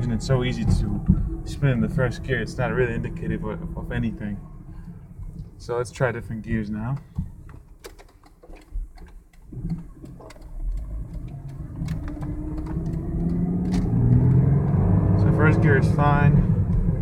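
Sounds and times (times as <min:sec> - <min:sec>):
car engine accelerating: 0:00.0 - 0:06.7, 0:09.4 - 0:17.0.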